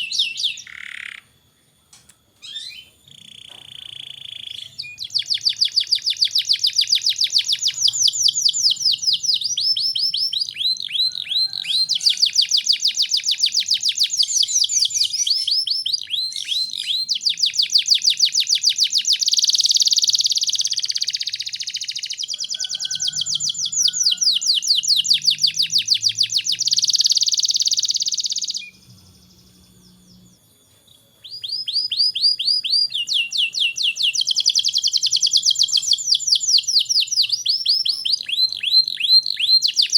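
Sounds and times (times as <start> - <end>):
canary singing trills: 0.0 - 1.5, 2.4 - 39.9.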